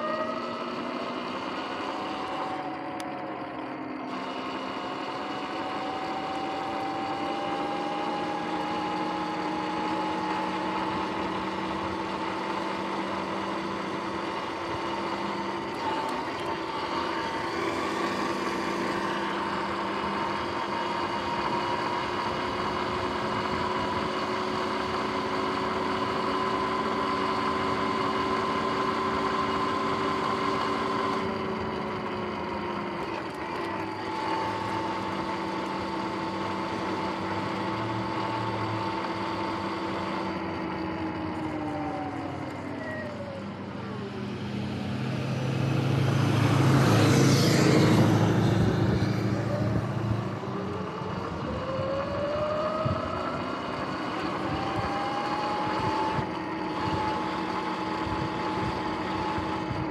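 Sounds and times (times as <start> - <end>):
electric dirt bike motor whining: 0.0 - 59.9.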